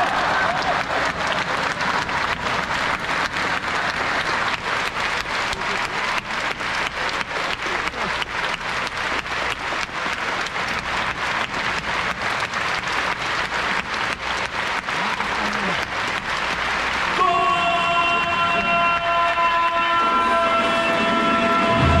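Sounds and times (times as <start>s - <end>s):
crowd clapping in unison: 0.0s - 22.0s.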